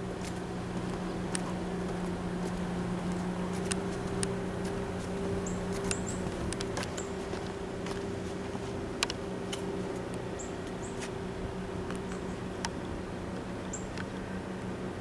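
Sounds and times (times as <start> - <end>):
train rolling past humming: 0.0 - 15.0.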